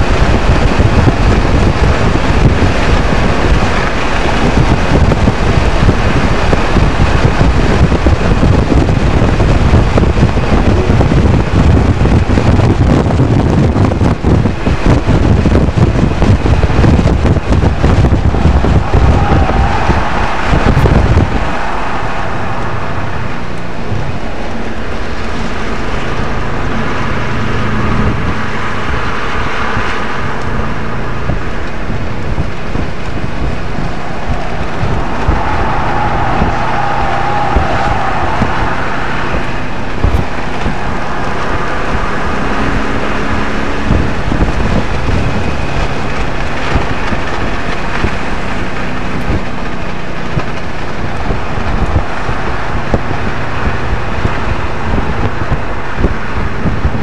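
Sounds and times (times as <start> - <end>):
car engine revving: 0.0 - 57.0
road and wind noise: 0.0 - 57.0.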